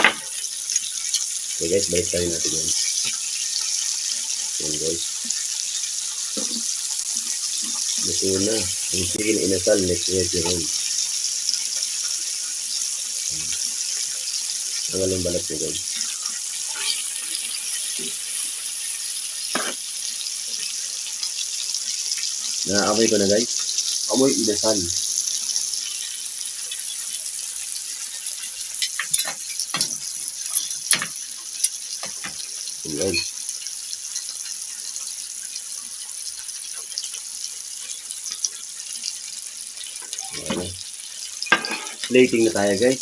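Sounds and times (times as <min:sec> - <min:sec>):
chicken sizzling on a grill: 0:00.0 - 0:43.0.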